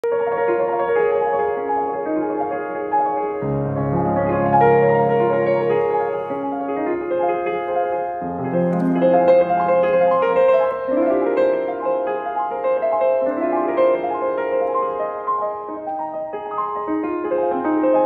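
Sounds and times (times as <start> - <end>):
slow gentle piano chords: 0.1 - 18.0.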